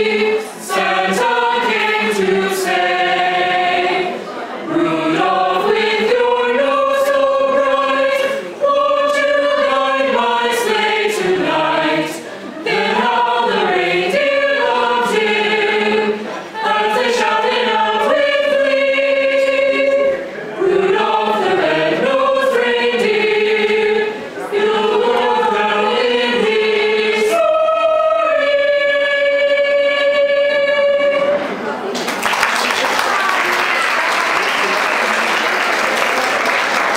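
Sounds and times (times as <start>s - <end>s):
choir singing a cappella: 0.0s - 31.7s.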